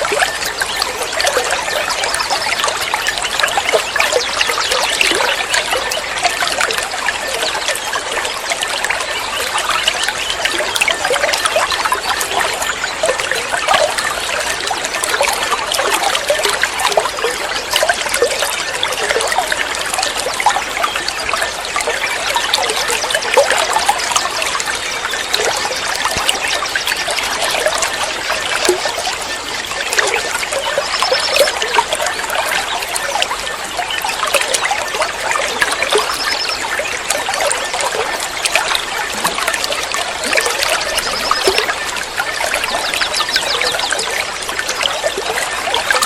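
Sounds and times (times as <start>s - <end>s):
water trickling and splashing: 0.0s - 46.0s.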